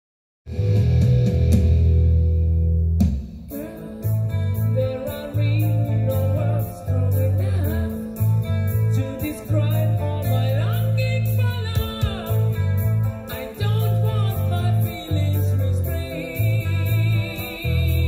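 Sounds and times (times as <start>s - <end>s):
background music with beat and bass: 0.5s - 18.0s.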